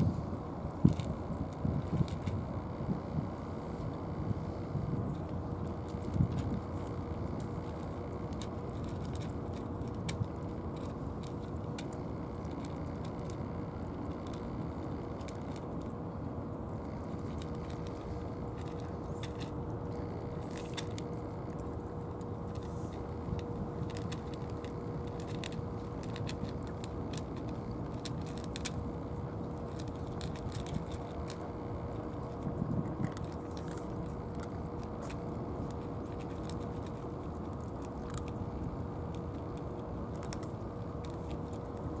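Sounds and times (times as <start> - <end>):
cats crunching dry kibble: 0.0 - 42.0
faint constant hum: 0.0 - 42.0
low background rumble: 0.0 - 42.0.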